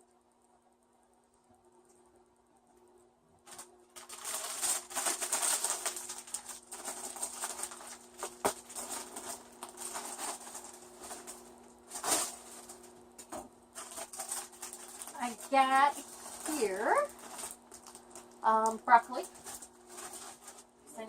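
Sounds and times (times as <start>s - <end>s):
plastic bag crinkling: 3.4s - 21.0s.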